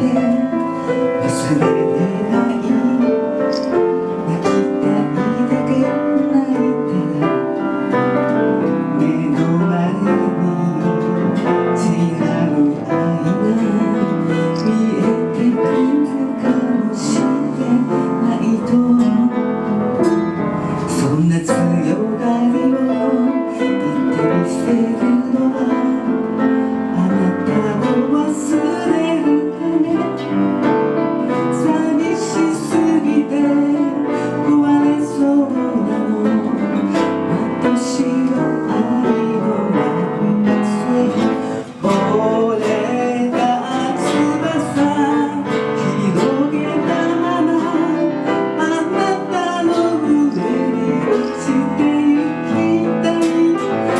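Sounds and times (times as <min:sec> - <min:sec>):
person singing: 0:00.0 - 0:53.9
piano and guitar accompaniment: 0:00.0 - 0:53.9.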